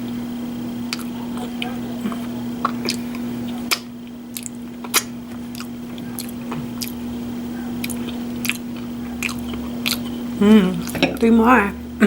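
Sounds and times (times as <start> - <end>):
steady low hum: 0.0 - 12.0
wet mouth chewing smacks: 0.9 - 11.2.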